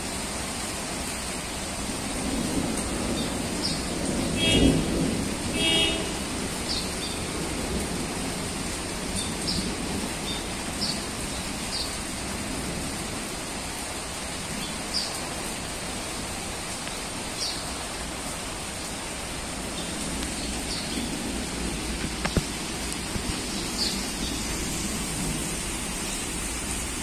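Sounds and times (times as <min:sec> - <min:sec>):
rain on pavement: 0:00.0 - 0:27.0.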